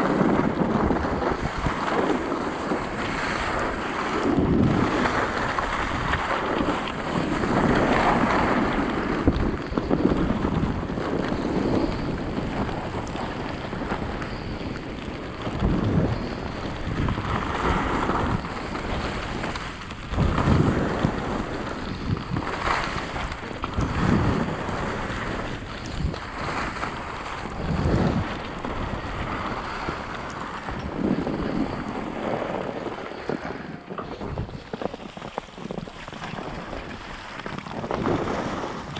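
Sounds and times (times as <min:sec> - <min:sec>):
ski edges scraping packed snow: 0:00.0 - 0:38.9
wind rushing over microphone: 0:00.0 - 0:38.9.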